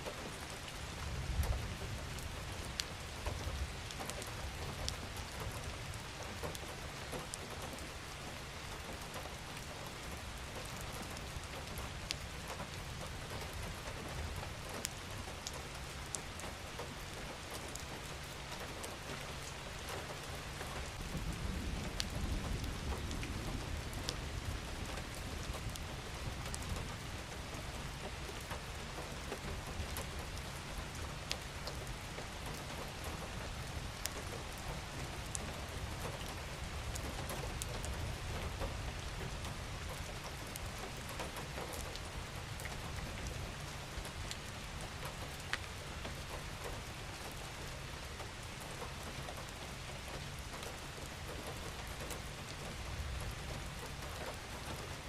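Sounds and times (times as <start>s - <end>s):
rain hissing on surfaces: 0.0s - 55.0s
raindrop ticks: 1.4s - 55.0s.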